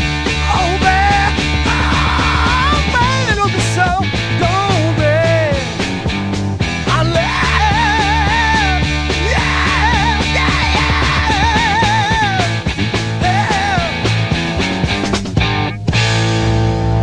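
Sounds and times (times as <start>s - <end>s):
psychedelic rock music: 0.0s - 17.0s.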